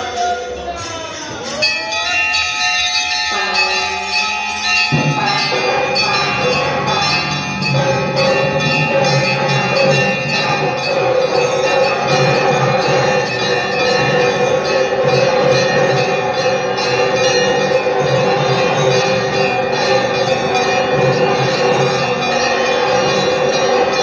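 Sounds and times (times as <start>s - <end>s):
temple bells ringing: 0.0s - 24.0s.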